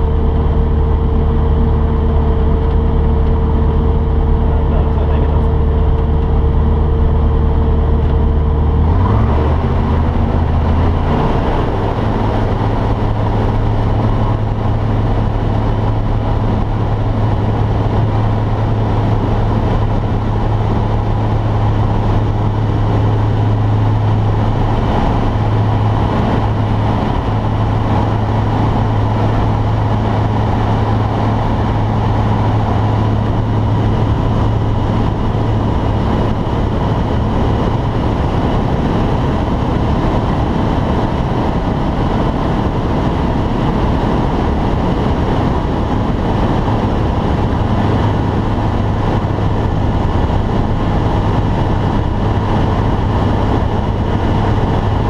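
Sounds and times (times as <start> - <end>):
propeller engine droning: 0.0 - 55.0.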